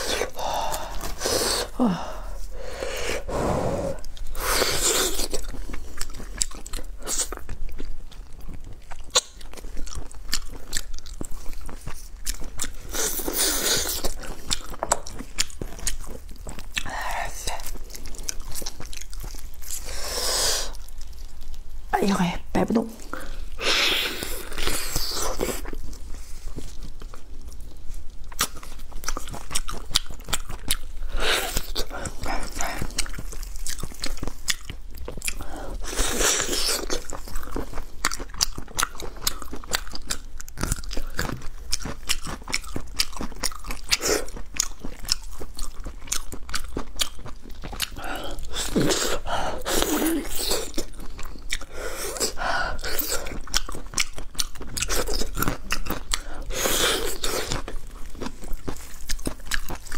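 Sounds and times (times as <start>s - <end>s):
wet biting and chewing: 3.9s - 21.7s, 23.0s - 59.9s.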